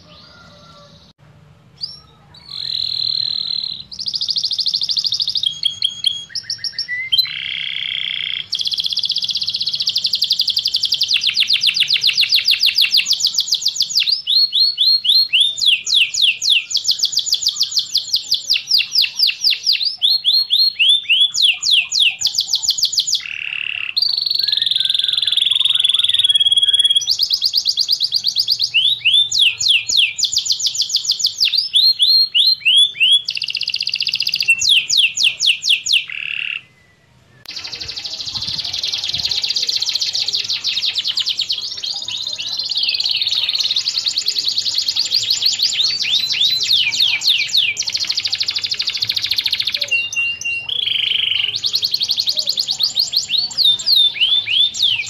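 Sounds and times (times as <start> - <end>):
canary singing trills: 1.8 - 55.0.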